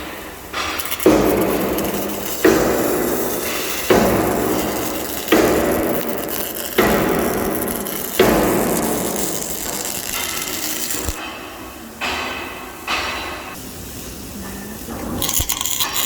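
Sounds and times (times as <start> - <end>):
hammer striking steel: 0.6 - 13.6.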